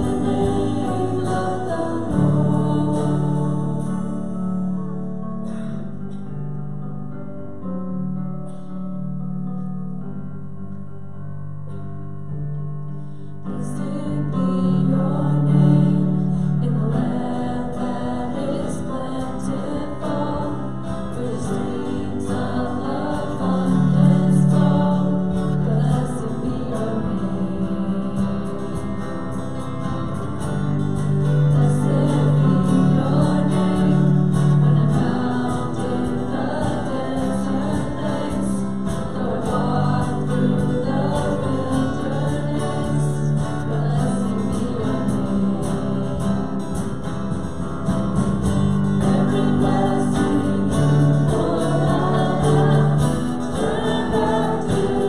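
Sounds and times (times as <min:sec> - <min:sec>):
group singing worship song: 0:00.0 - 0:06.0, 0:13.1 - 0:55.0
acoustic guitar: 0:00.0 - 0:55.0.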